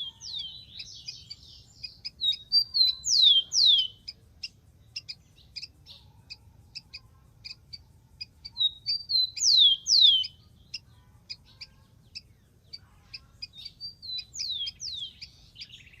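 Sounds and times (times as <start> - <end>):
sharp bird chips: 0.0 - 16.0.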